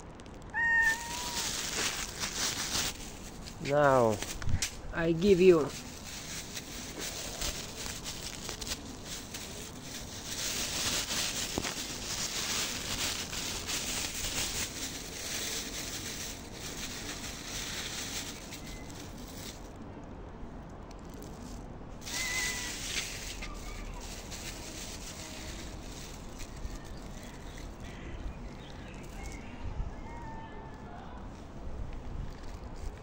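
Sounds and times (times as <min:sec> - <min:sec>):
cat food bag crinkling: 0:00.2 - 0:19.8, 0:21.1 - 0:29.4.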